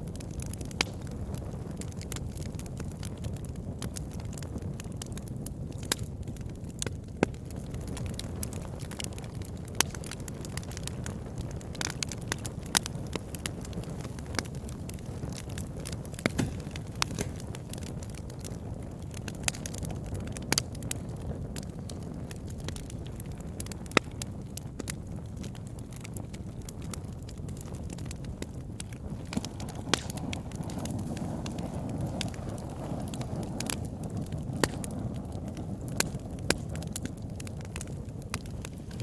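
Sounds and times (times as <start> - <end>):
campfire flame rumble: 0.0 - 39.0
wood crackling and popping: 0.0 - 39.0.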